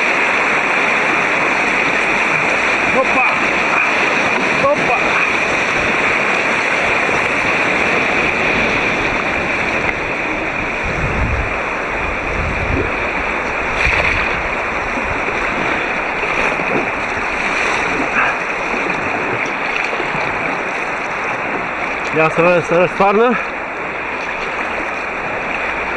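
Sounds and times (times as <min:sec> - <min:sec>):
rushing whitewater: 0:00.0 - 0:25.9.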